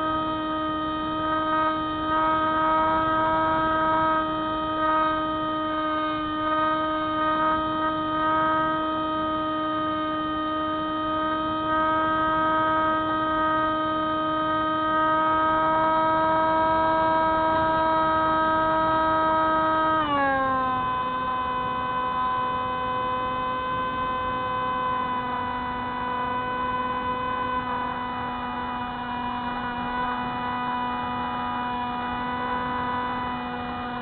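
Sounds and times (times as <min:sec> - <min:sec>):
electric motor and propeller whining: 0:00.0 - 0:34.0.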